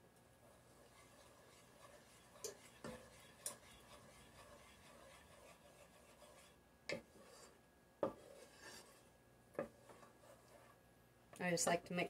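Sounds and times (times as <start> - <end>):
wooden spoon scraping a pot: 0.4 - 10.8.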